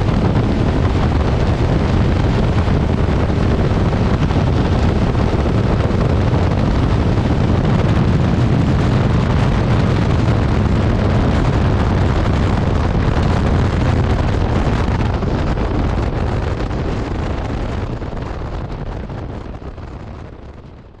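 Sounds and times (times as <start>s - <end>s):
motorcycle engine: 0.0s - 18.0s
wind rushing over microphone: 0.0s - 21.0s.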